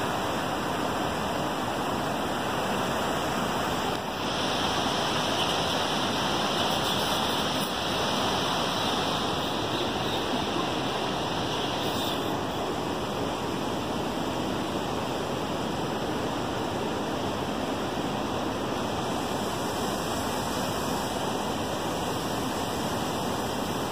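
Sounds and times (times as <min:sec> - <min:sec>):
river rushing over rocks: 0:00.0 - 0:23.9.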